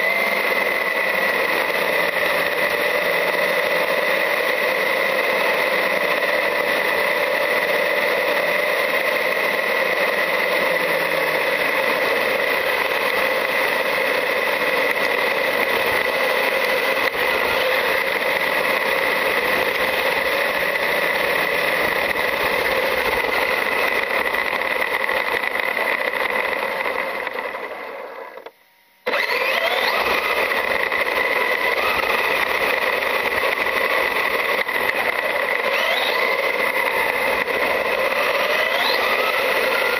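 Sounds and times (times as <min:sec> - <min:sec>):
electric motor and gear whine: 0:00.0 - 0:39.9.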